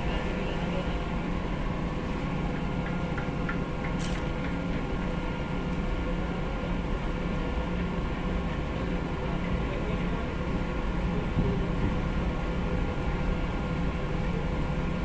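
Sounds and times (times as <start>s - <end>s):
ship machinery rumble: 0.0s - 15.0s.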